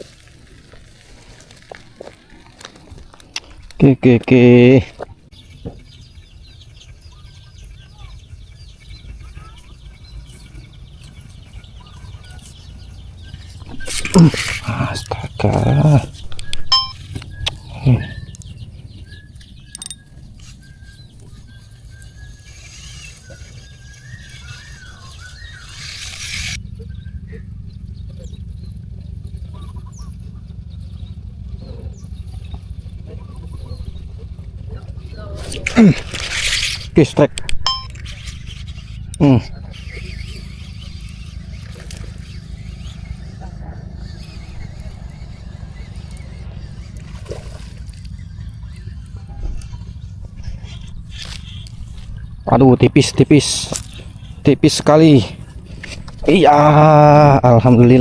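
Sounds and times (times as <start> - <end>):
steady low rumble: 0.0 - 22.8, 23.6 - 58.0
birds chirping: 0.0 - 58.0
lower curved bird calls: 0.0 - 58.0.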